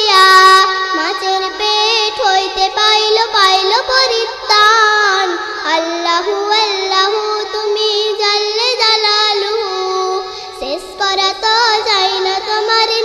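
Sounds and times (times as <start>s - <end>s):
girl singing a hymn: 0.0s - 13.0s.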